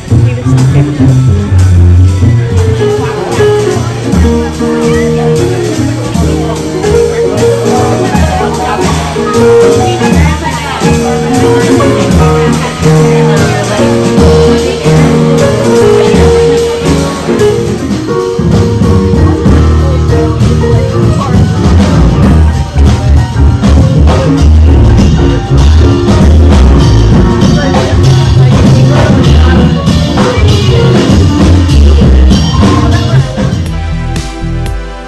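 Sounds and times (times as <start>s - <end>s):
music with strong bass beat: 0.0s - 35.0s.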